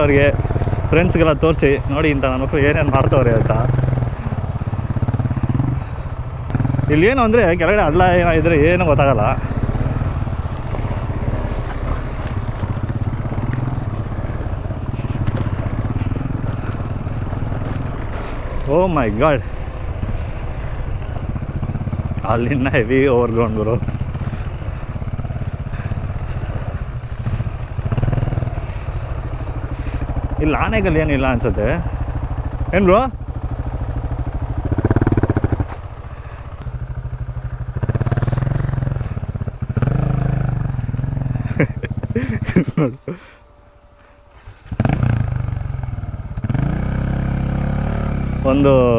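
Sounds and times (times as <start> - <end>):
motorcycle engine running at low revs: 0.0 - 48.9.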